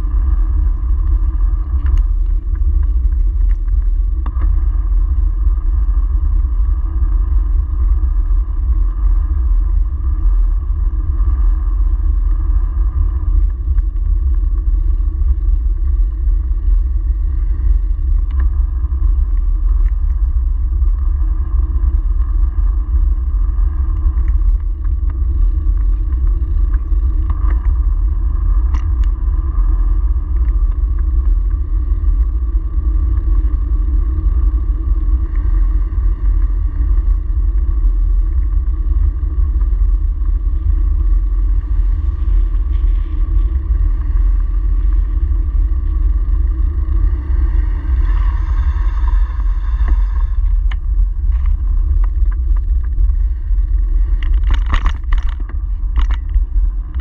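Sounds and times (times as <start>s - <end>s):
bicycle tyre road noise: 0.0s - 57.0s
wind rumble on microphone: 0.0s - 57.0s.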